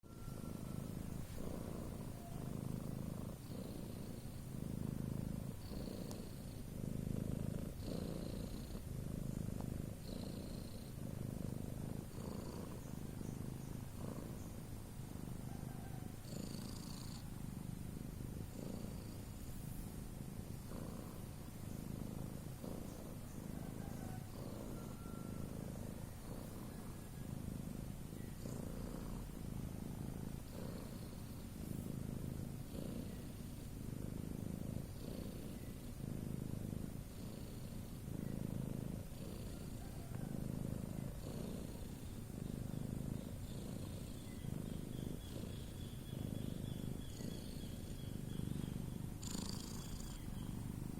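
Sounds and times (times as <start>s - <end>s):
cat purring rumble: 0.0s - 50.9s.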